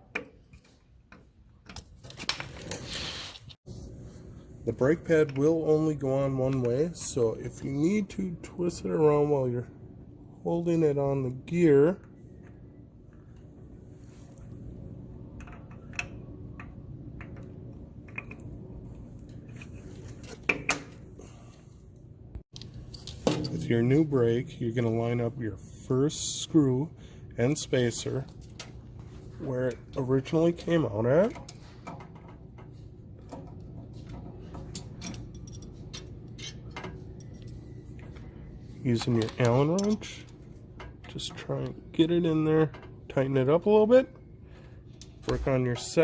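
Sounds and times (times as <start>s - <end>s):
steady low hum: 3.7s - 46.0s.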